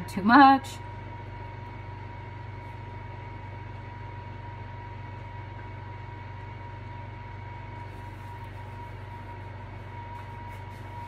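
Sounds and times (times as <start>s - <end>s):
constant high whine: 0.0s - 11.0s
steady low hum: 0.0s - 11.0s.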